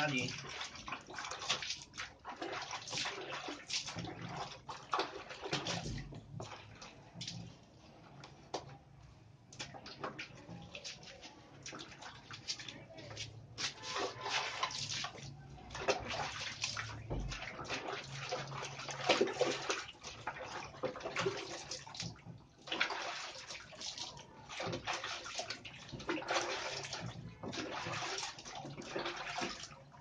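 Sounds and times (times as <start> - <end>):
water sloshing in plastic tub: 0.0 - 30.0.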